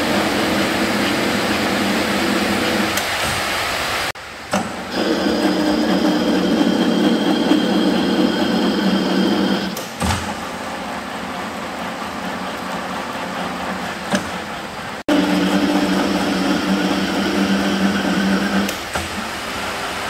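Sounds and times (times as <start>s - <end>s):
workshop machine humming: 0.0s - 20.0s.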